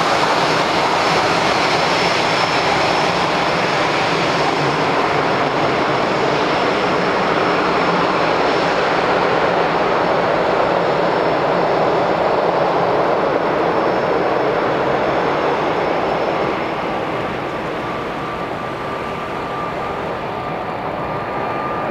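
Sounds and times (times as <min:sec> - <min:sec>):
jet engines at takeoff power: 0:00.0 - 0:21.9.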